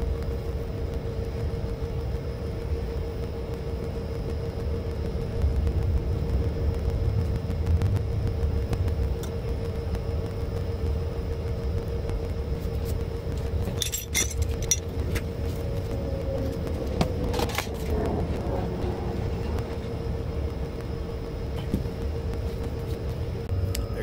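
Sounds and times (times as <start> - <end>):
low rumble: 0.0 - 24.0
mechanical equipment hum: 0.0 - 24.0.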